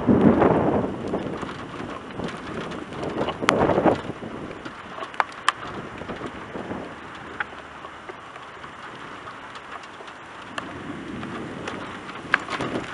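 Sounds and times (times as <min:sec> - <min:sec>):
raindrops tapping close by: 0:00.0 - 0:12.9
steady rain: 0:00.0 - 0:12.9.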